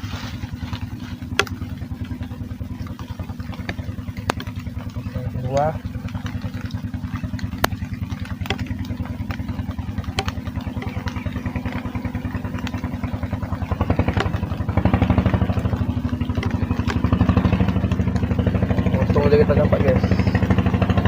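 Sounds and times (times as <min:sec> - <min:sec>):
small engine puttering: 0:00.0 - 0:21.0
sharp clicks: 0:00.7 - 0:20.7.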